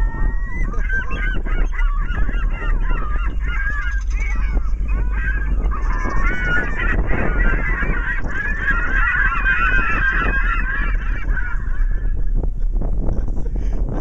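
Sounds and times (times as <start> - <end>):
honking animal calls over speakers: 0.0 - 12.4
deep bass drone: 0.0 - 14.0.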